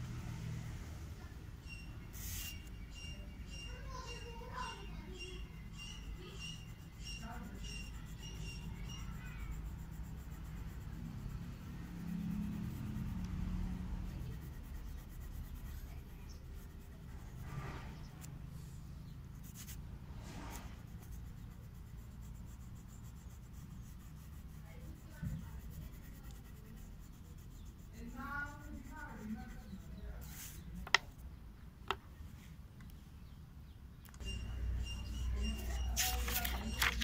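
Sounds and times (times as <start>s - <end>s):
wax crayon scratching on paper: 1.7s - 18.4s, 19.3s - 31.2s, 34.3s - 37.0s.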